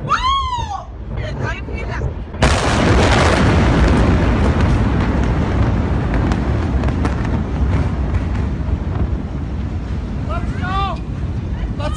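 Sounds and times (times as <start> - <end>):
explosion rumble: 0.0 - 11.9.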